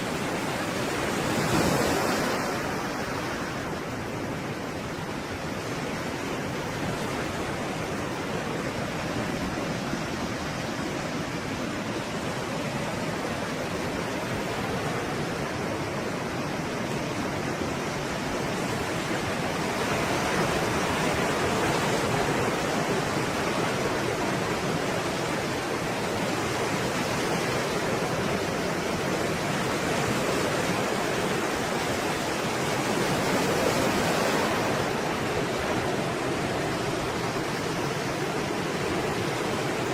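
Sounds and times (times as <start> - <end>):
stormy sea waves breaking: 0.0 - 39.9.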